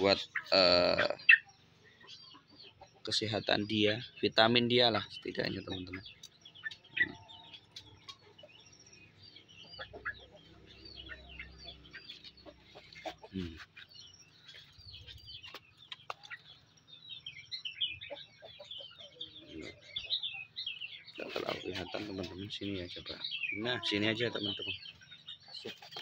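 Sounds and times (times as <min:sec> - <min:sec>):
birds chirping and whistling: 0:00.0 - 0:26.0.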